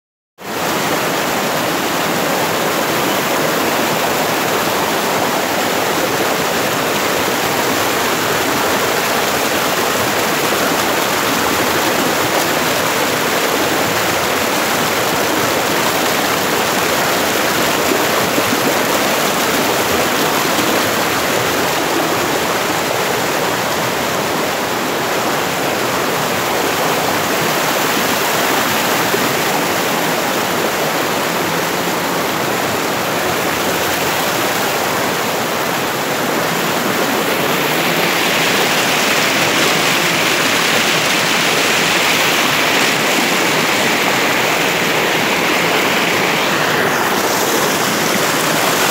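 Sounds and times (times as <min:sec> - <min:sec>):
waterfall pouring over rocks: 0:00.5 - 0:48.9.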